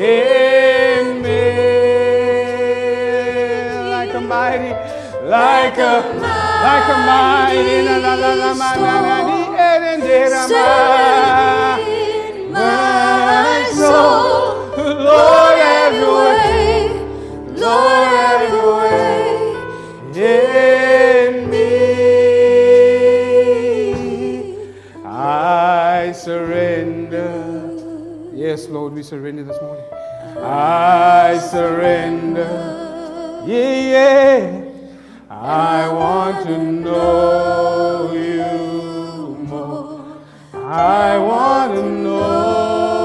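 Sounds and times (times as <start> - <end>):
voices singing held notes: 0.0 - 29.6, 30.3 - 43.0
keyboard: 0.0 - 43.0.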